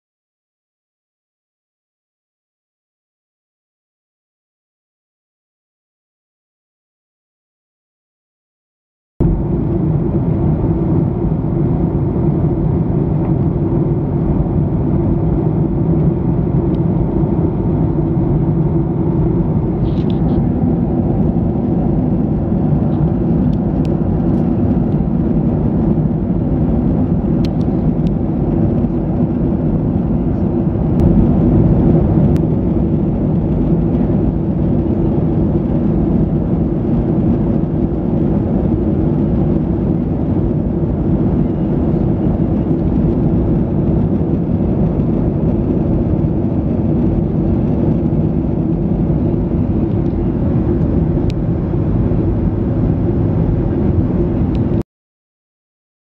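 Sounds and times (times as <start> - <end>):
airplane cabin drone: 9.2 - 54.8.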